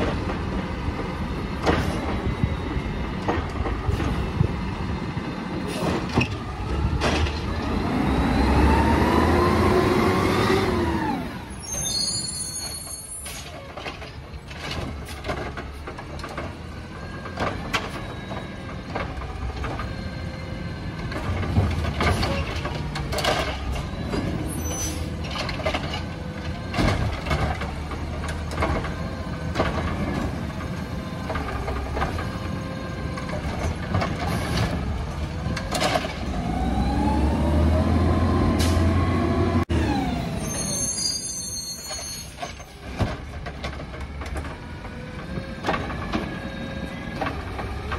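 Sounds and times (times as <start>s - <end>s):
garbage truck diesel engine: 0.0s - 47.9s.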